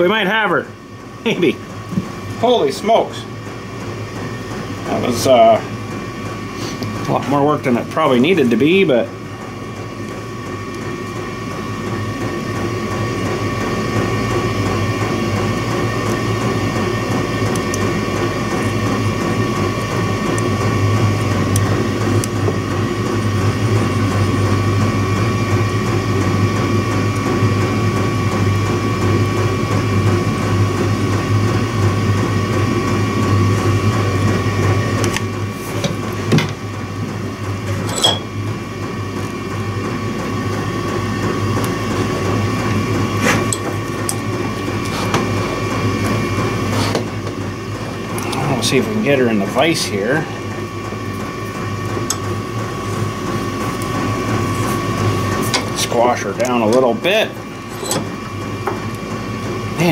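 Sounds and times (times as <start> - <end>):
thin steady whine: 0.0 - 59.9.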